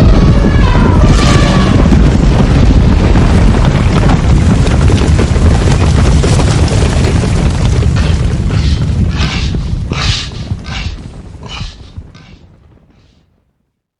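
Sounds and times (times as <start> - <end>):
hooves pounding the ground: 0.0 - 13.4.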